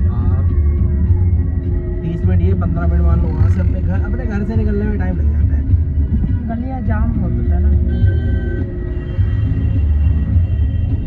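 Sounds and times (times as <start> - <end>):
music playing: 0.0 - 11.0.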